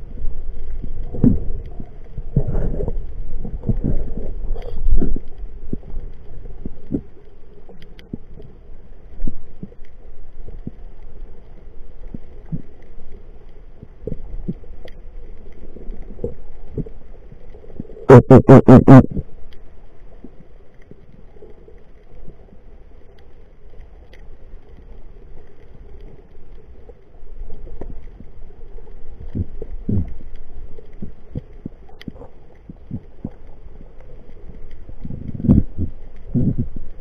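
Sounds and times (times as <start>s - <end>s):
low rumble of moving water: 0.0s - 37.0s
faint clicks: 0.1s - 18.1s, 19.2s - 37.0s.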